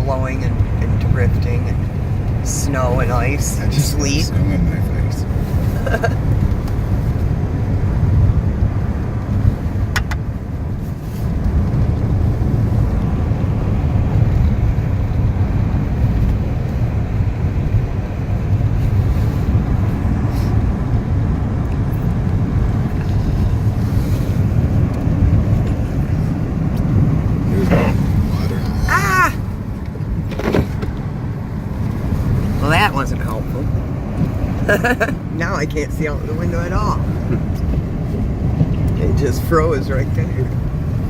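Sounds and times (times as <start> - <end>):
road and wind rumble in car: 0.0 - 41.0.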